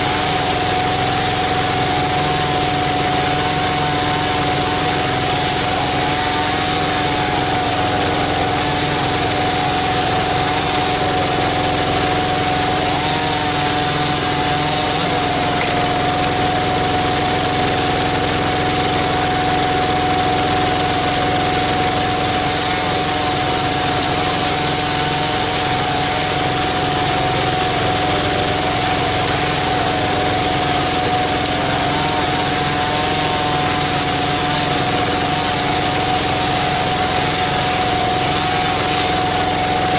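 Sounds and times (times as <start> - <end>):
steady high tone: 0.0 - 39.9
tiller engine running: 0.0 - 39.9.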